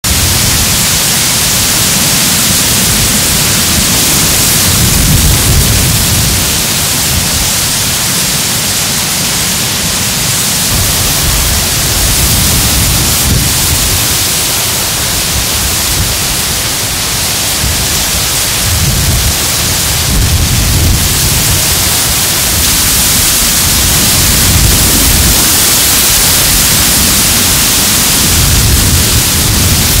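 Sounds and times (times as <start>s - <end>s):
dry reeds rustling in wind: 0.0s - 30.0s
wind buffeting microphone: 0.0s - 30.0s.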